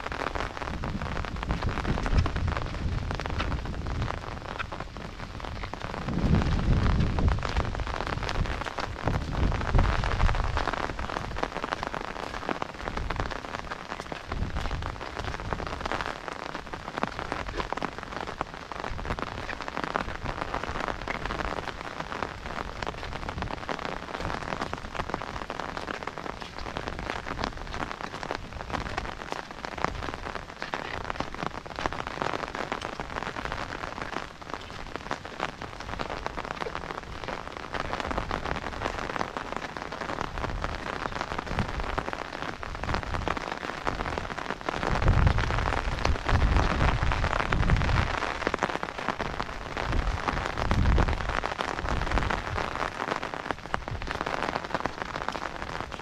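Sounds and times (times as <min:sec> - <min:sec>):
rain pattering on brick and grass: 0:00.0 - 0:56.0.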